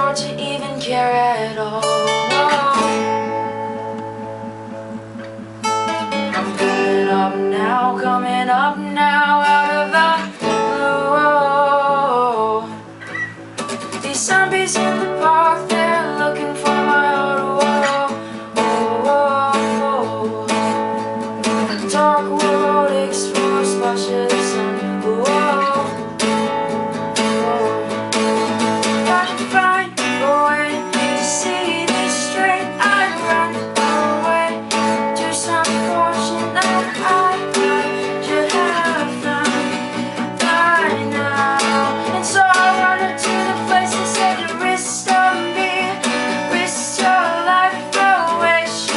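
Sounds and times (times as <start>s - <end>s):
person singing: 0.0s - 4.6s, 6.1s - 13.3s, 13.9s - 48.9s
strummed acoustic guitar: 0.0s - 48.9s.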